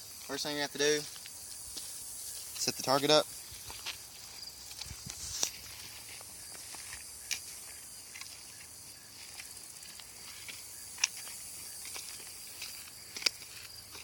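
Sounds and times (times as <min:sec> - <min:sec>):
high-pitched outdoor hiss: 0:00.0 - 0:14.0.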